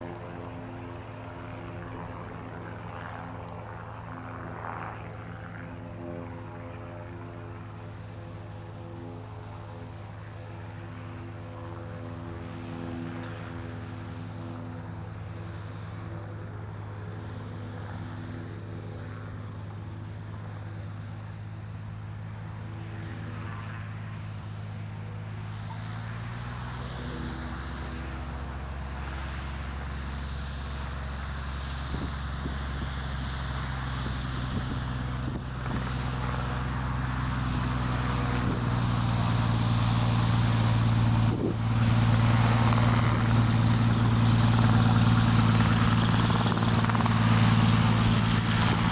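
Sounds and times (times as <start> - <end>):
propeller plane engine droning: 0.0 - 48.9.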